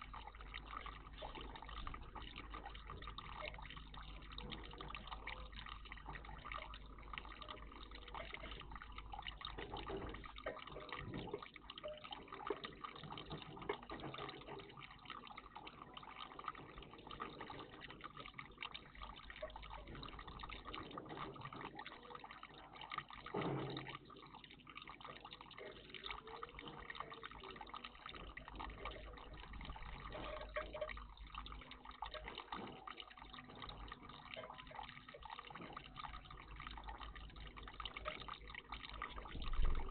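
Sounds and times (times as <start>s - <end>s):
water trickling in bird bath: 0.0s - 39.9s.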